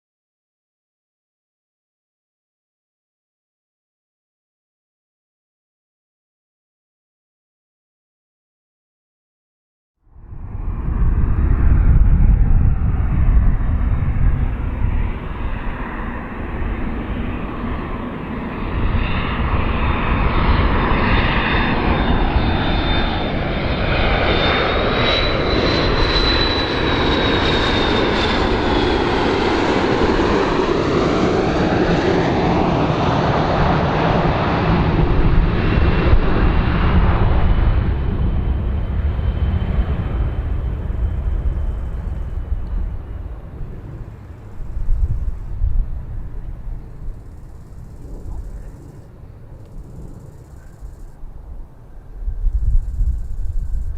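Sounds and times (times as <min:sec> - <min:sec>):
airplane engines passing: 0:10.0 - 0:53.9
deep continuous rumble: 0:10.1 - 0:53.9
high engine whine: 0:10.1 - 0:53.9.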